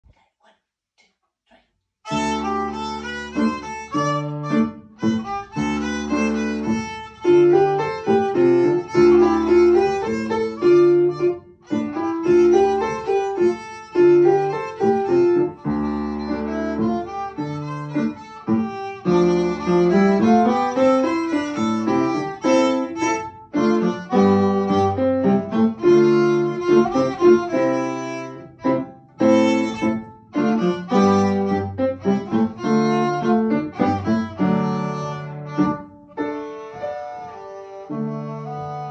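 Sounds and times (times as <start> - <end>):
piano accompaniment: 2.1 - 38.9
small violin playing a tune: 2.1 - 38.9.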